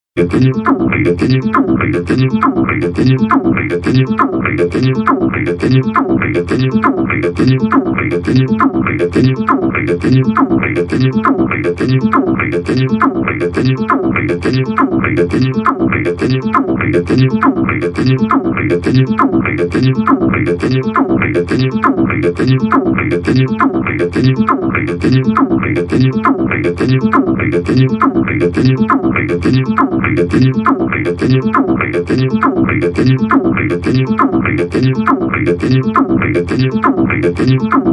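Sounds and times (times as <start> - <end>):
acid synthesizer chords: 0.2 - 37.9.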